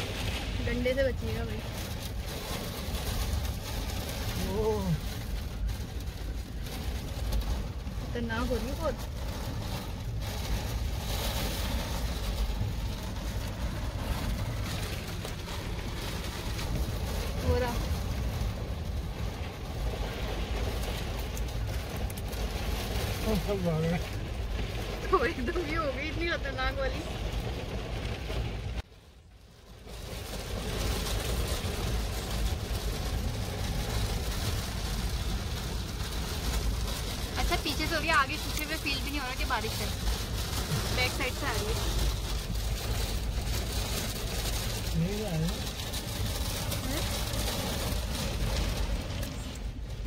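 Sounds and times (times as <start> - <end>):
deep low rumble: 0.0 - 50.0
gusting wind: 0.0 - 50.0
heavy rain on a car: 0.0 - 50.0.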